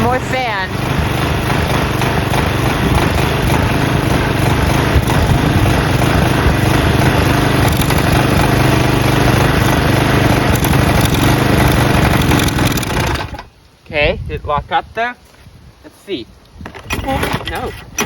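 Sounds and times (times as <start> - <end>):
push mower engine running: 0.0 - 13.5, 16.8 - 18.0.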